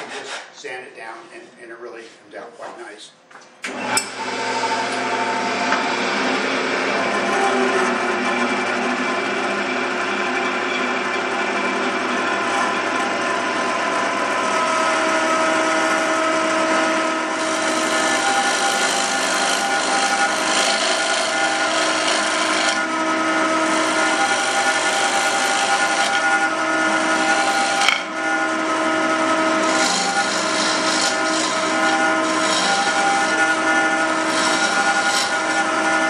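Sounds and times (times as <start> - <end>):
wood lathe motor hum: 3.7 - 36.0
gouge cutting spinning wood: 4.1 - 36.0.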